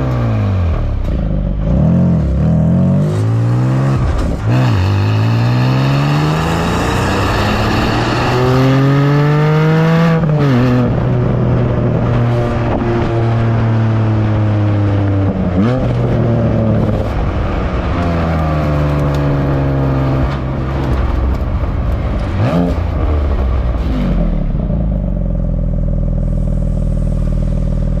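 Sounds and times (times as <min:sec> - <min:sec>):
car engine exhaust: 0:00.0 - 0:28.0.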